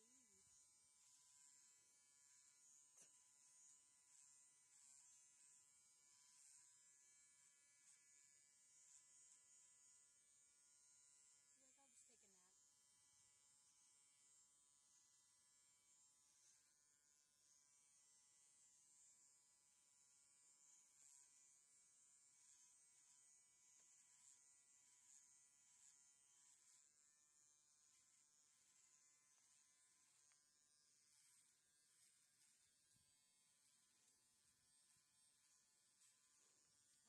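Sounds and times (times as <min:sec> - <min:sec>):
electric clippers buzzing: 0:00.0 - 0:37.0.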